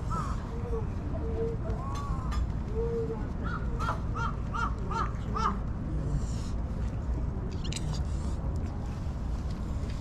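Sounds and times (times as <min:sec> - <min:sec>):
low background noise: 0:00.0 - 0:10.0.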